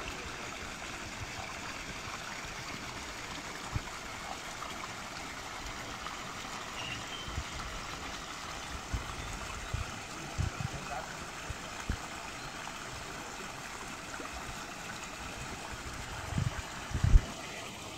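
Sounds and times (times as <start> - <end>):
running water rushing: 0.0 - 17.9.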